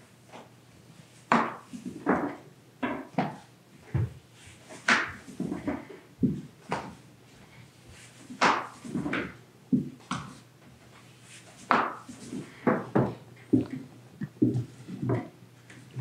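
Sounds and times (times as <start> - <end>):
rolling pin rolling dough: 1.2 - 16.0.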